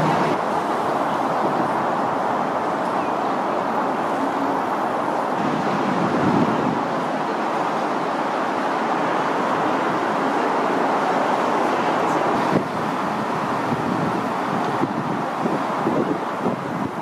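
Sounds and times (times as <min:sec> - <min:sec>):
city road traffic hum: 0:00.0 - 0:17.0.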